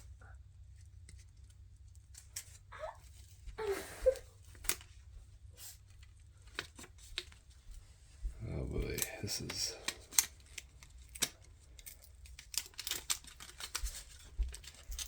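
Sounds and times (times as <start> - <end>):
paper crinkling rustles: 1.1 - 8.0, 8.8 - 15.0.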